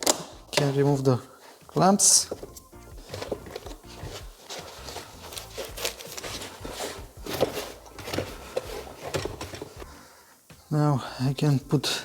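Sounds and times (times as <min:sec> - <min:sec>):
parts rubbing: 0:00.0 - 0:10.1.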